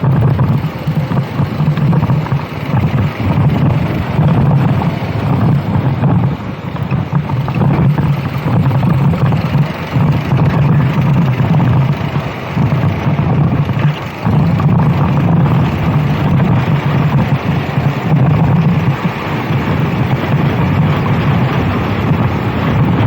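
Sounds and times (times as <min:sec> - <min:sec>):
kart engine running hard: 0:00.0 - 0:23.0
wind buffeting microphone: 0:00.0 - 0:23.0.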